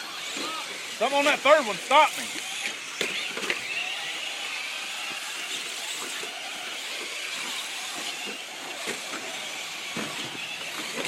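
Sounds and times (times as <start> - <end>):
rc trucks whining: 0.0 - 11.0.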